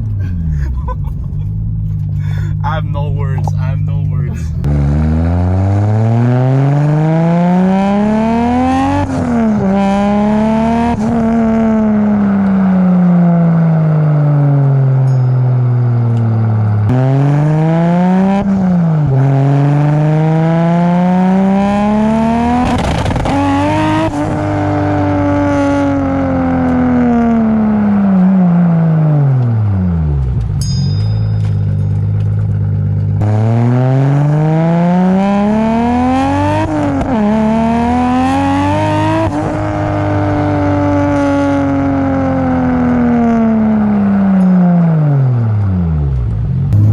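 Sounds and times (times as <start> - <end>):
car engine accelerating through gears: 0.0 - 15.1, 15.7 - 30.6, 31.4 - 46.9.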